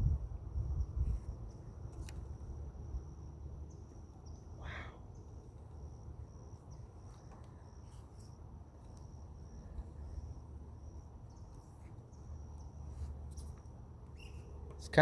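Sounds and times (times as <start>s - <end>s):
insects trilling: 1.0s - 15.0s.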